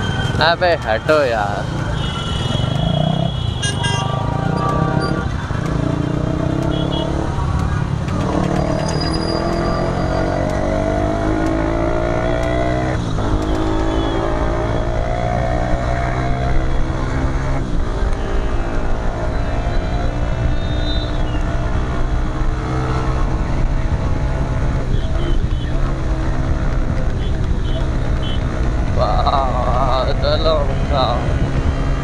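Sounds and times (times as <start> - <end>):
motorcycle engine accelerating: 2.6 - 32.0.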